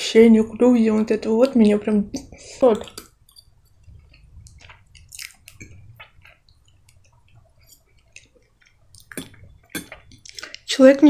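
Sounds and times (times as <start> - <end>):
person chewing food: 1.2 - 10.7.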